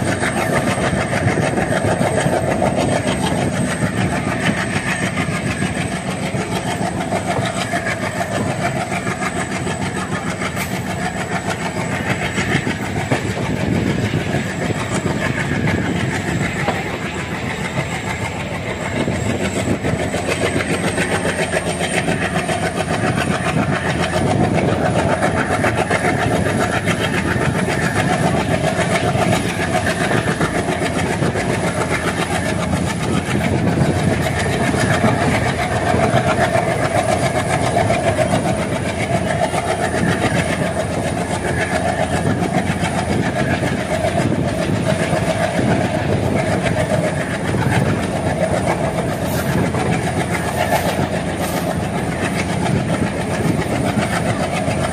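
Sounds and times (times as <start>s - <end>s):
train wheels clickety-clack: 0.0s - 54.9s.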